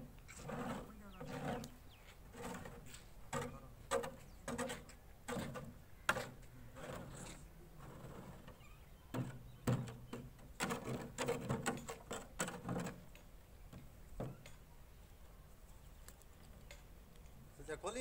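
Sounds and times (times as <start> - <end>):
knocks and scrapes: 0.0 - 14.7.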